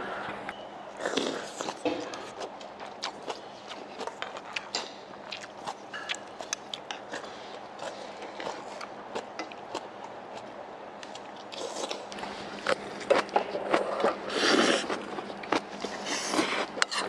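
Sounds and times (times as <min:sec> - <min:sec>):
chewing: 0:01.0 - 0:17.0.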